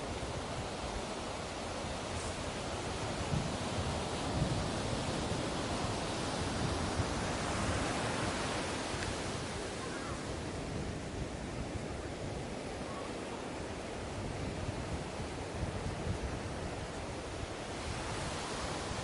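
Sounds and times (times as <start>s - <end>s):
ocean waves breaking on beach: 0.0s - 19.0s.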